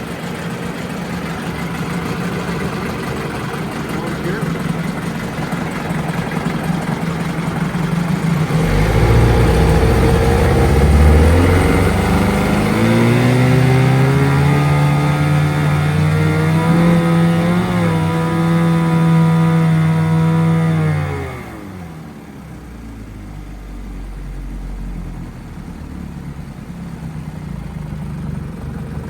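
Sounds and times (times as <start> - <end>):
outboard motor running: 0.0 - 29.0.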